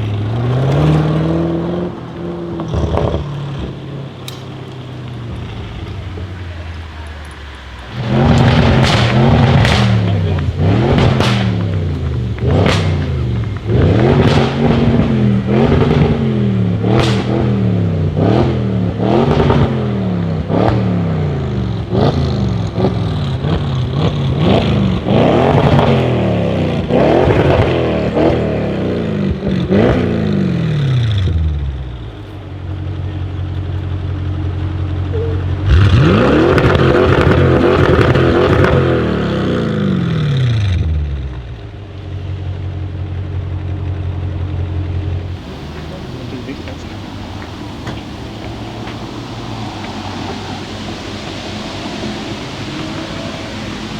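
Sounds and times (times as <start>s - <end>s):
car engine revving: 0.0s - 53.9s
exhaust crackles: 0.0s - 53.9s.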